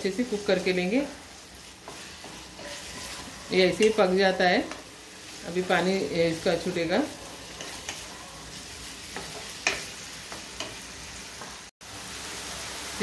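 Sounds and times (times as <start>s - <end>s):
meat sizzling in a pan: 0.0s - 13.0s
spatula scraping a pan: 0.1s - 11.7s.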